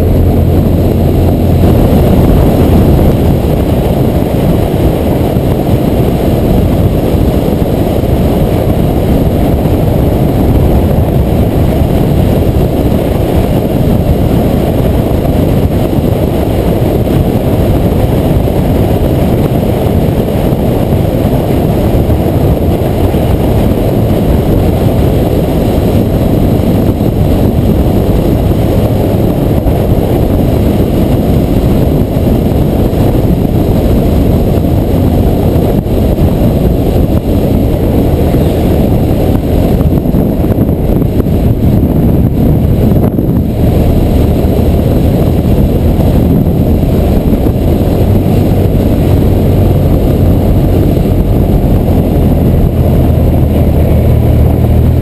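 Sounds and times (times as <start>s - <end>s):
motorcycle running: 0.0s - 55.0s
road noise: 0.0s - 55.0s
wind rumble on microphone: 0.0s - 55.0s.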